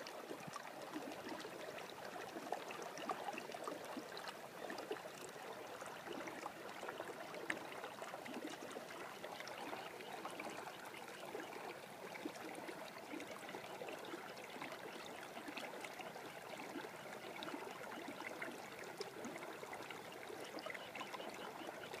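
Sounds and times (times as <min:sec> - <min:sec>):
shallow water trickling: 0:00.1 - 0:22.0.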